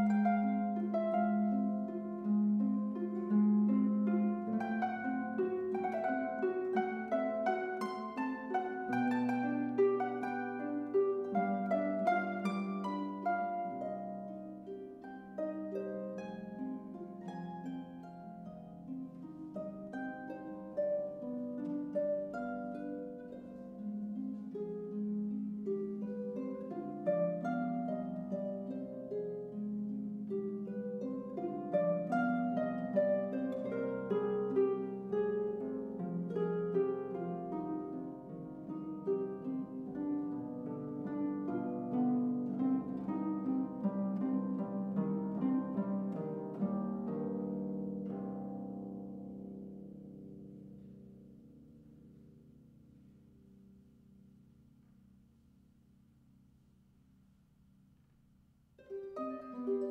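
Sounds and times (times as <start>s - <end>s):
harp plucked notes: 0.0s - 52.6s, 58.8s - 59.9s.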